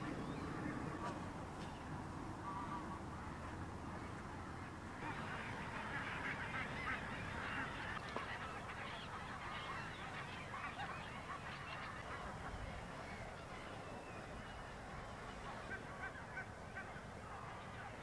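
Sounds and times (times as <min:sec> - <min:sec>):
geese honking: 0:02.4 - 0:18.0.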